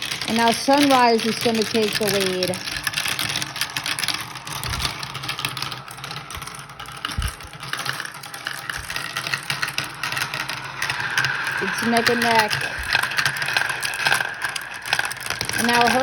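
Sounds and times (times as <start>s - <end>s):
marbles rattling down a track: 0.0s - 16.0s.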